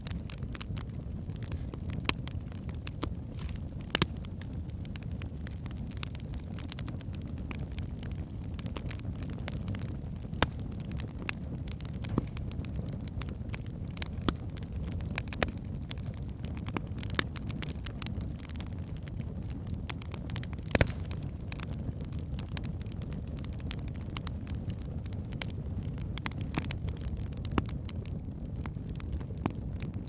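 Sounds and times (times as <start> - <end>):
burning logs crackling and popping: 0.0 - 30.0
low rumble of flames: 0.0 - 30.0.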